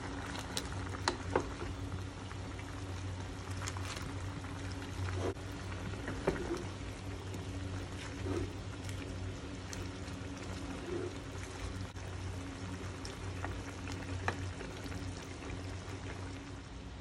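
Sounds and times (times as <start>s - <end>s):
broth sloshing in a pot: 0.0s - 17.0s
steady low hum: 0.0s - 17.0s.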